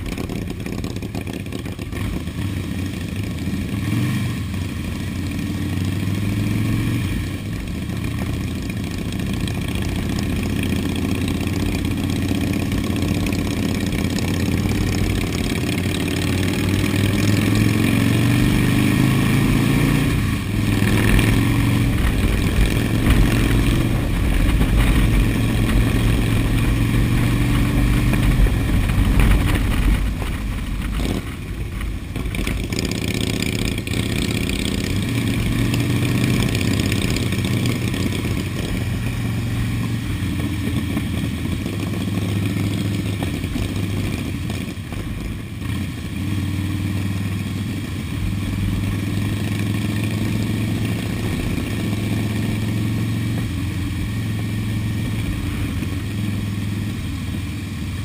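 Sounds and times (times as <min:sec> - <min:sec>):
motorcycle engine running: 0:00.0 - 0:58.0
road and wind hiss: 0:00.0 - 0:58.0.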